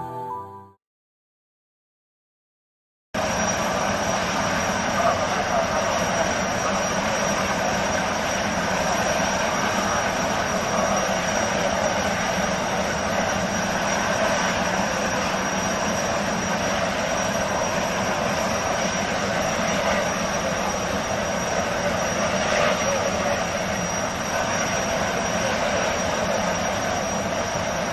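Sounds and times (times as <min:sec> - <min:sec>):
gas turbine jet-like rush: 0:03.2 - 0:27.9.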